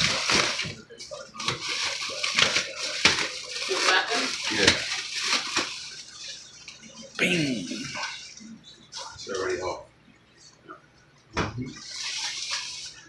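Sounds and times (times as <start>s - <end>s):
people talking: 0.0s - 12.0s.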